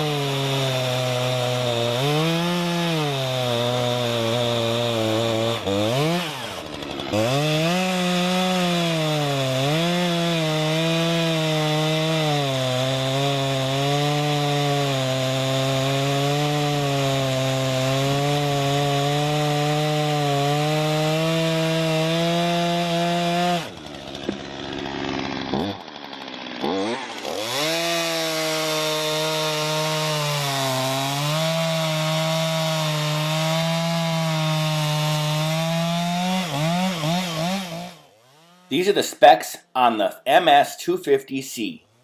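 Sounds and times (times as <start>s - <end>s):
chainsaw cutting wood: 0.0s - 42.0s.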